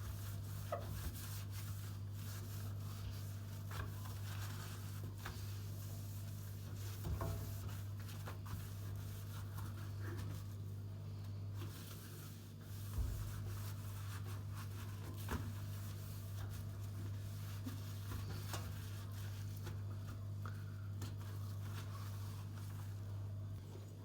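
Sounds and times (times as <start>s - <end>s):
rubbing and handling sounds: 0.0s - 24.0s.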